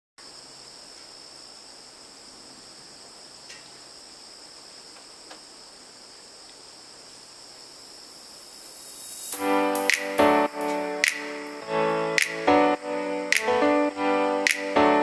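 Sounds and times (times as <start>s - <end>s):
crickets trilling: 0.2s - 15.0s.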